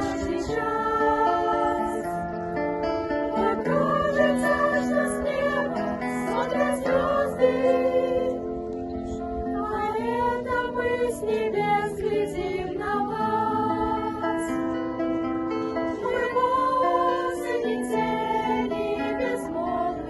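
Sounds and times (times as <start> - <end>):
children's choir singing: 0.0 - 2.4, 3.2 - 15.0, 15.8 - 20.0.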